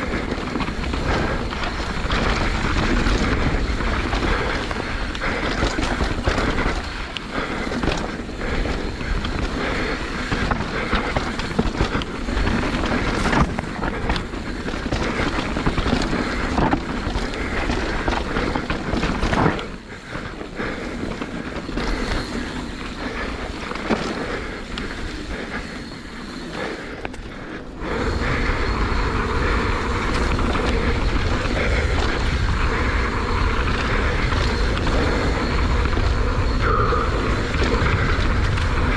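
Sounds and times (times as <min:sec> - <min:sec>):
bike knocks and rattles: 0:00.0 - 0:38.9
wind buffeting microphone: 0:00.0 - 0:38.9.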